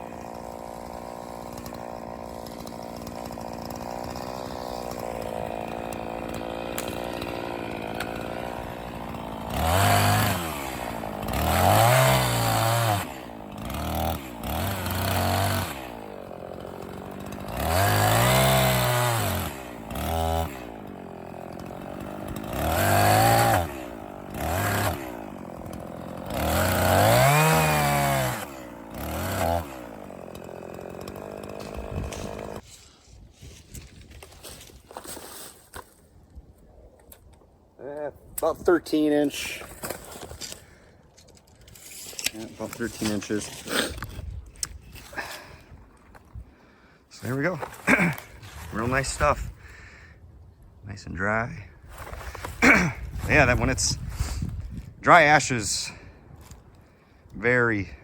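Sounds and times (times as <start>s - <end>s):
chainsaw idling and revving: 0.0s - 32.8s, 41.7s - 50.2s, 52.0s - 58.0s.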